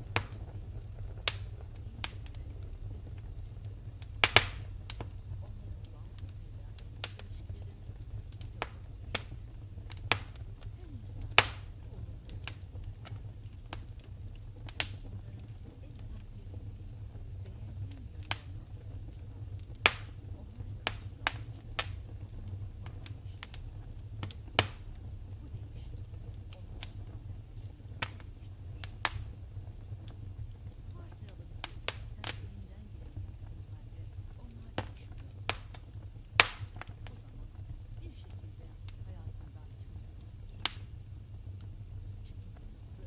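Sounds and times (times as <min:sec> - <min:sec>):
low rumble of flames: 0:00.0 - 0:43.0
wood fire crackling: 0:00.0 - 0:43.0.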